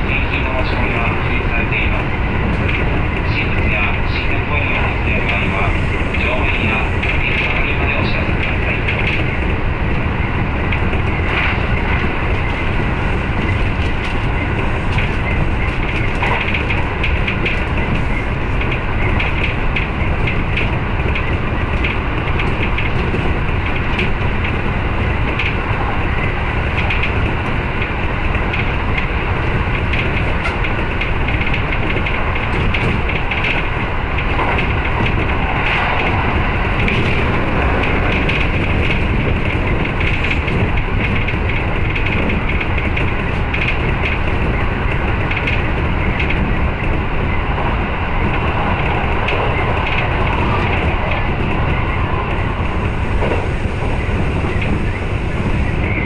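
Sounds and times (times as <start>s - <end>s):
track clicks and knocks: 0.0s - 56.0s
train wheels rumbling on rails: 0.0s - 56.0s.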